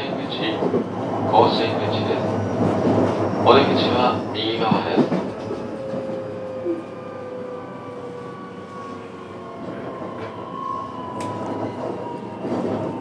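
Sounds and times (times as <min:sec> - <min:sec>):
train rail rumble: 0:00.0 - 0:13.0.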